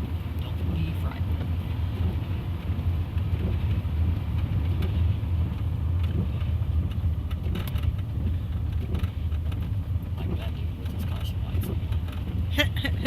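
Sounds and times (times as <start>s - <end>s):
vehicle driving on snow: 0.0s - 13.0s.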